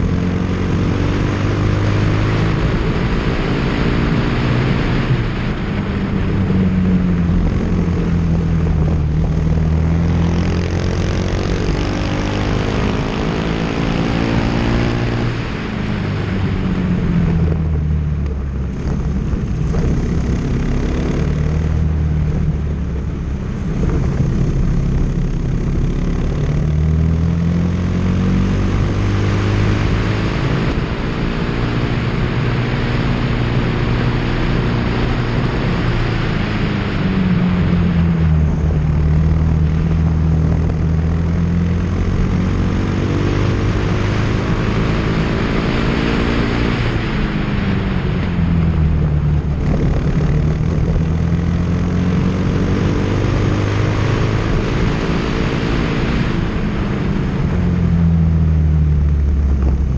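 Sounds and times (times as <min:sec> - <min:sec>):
kart engine at racing speed: 0:00.0 - 0:59.9.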